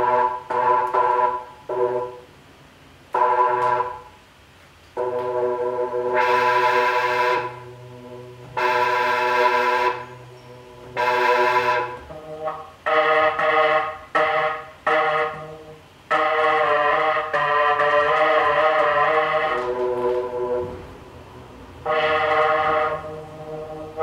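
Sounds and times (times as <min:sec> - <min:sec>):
synthesizer chords: 0:00.0 - 0:02.3, 0:03.1 - 0:04.2, 0:05.0 - 0:24.0.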